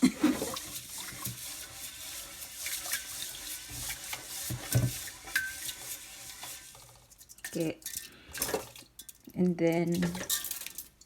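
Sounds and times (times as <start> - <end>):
rice washed in water splashing: 0.0 - 9.0.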